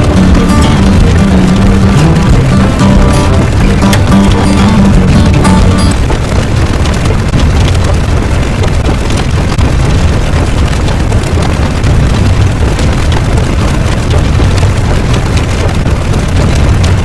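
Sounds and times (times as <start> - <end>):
loud low rumbling: 0.0 - 17.0.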